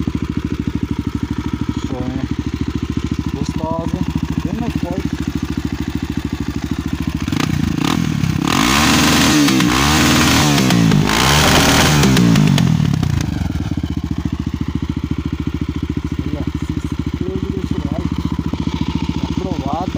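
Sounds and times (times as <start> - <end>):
motorcycle engine idling and revving: 0.0 - 19.9.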